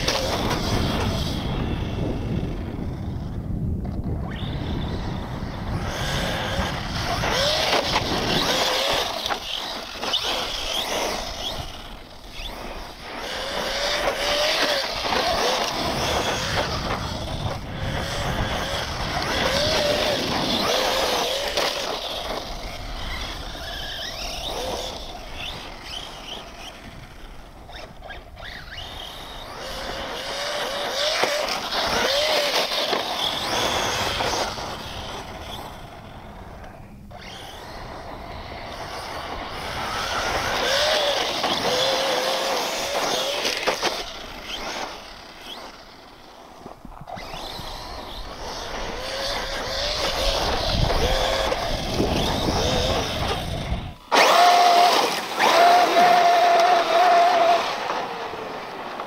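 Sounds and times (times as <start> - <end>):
rc truck motor whine: 0.0 - 59.0
tires sliding on dirt: 0.0 - 59.0.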